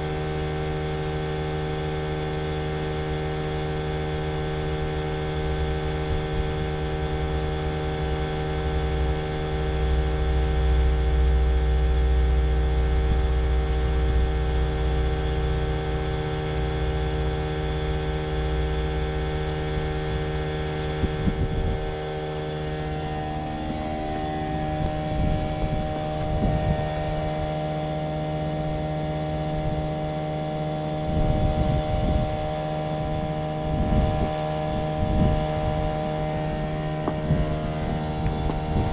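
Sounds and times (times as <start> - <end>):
heat pump droning: 0.0 - 38.9
deep rumble: 4.6 - 30.1, 30.8 - 38.9.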